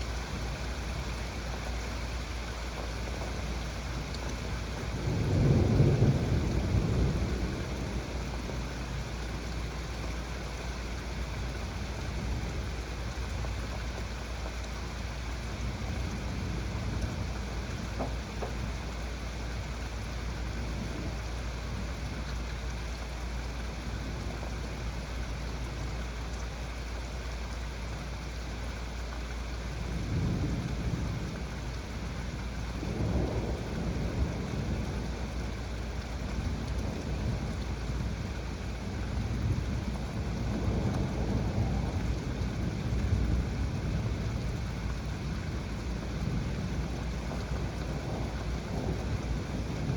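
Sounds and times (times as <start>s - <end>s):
low thunder rumbling: 0.0s - 22.3s, 29.7s - 49.9s
heavy rain falling: 0.0s - 49.9s.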